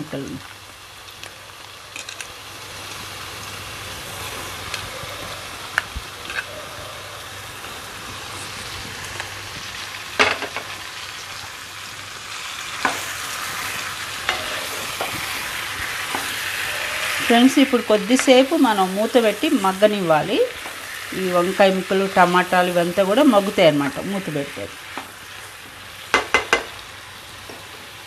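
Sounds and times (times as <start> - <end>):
food sizzling in pan: 0.0 - 28.0.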